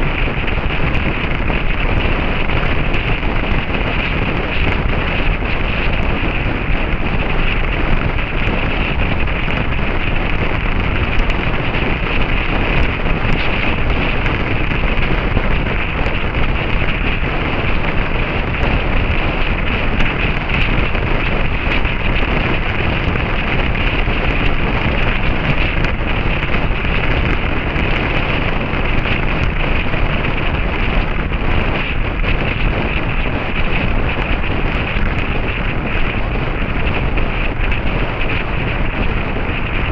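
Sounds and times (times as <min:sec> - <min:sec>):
wind blasting over microphone: 0:00.0 - 0:39.9.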